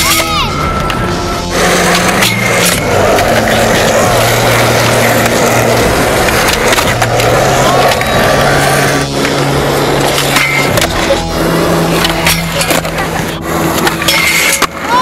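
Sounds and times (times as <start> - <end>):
skateboard wheels rolling: 0.0 - 15.0
skateboard clacks: 1.6 - 15.0.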